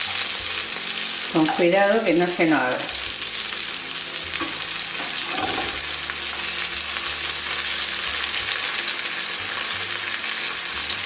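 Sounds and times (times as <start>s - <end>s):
onion sizzling in a frying pan: 0.0s - 11.0s.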